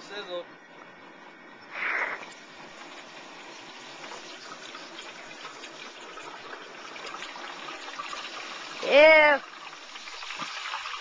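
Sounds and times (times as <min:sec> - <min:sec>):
hot oil sizzling and bubbling: 0:01.6 - 0:11.0.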